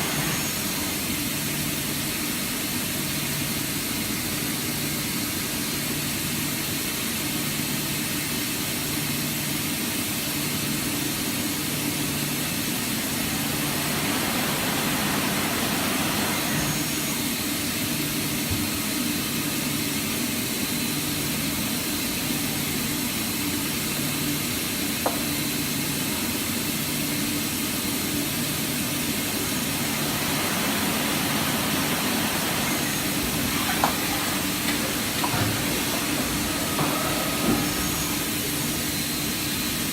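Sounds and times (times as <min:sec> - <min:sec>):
machine humming and hissing: 0:00.0 - 0:39.9.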